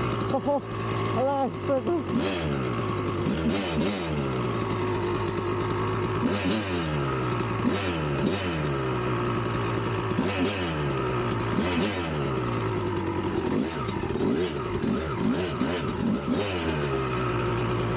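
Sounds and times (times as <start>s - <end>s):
two-stroke motorcycle engine revving: 0.0s - 17.9s.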